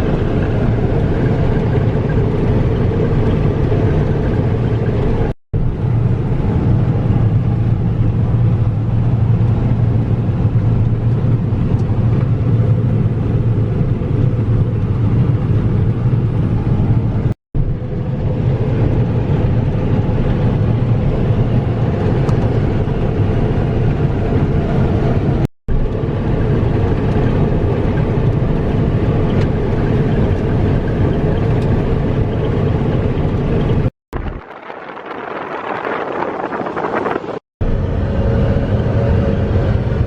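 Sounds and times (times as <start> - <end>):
diesel farm machinery engine droning: 0.0 - 40.0.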